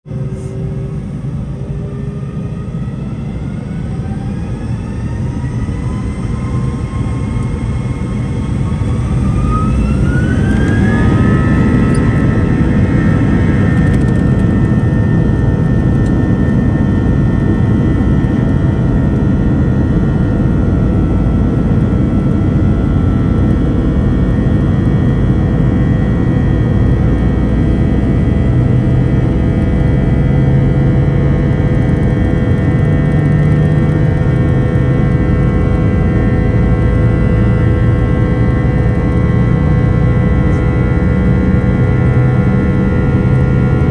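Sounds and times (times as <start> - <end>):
jet engine rumble and whine: 0.0 - 43.9
jet engines spooling up: 0.1 - 43.9.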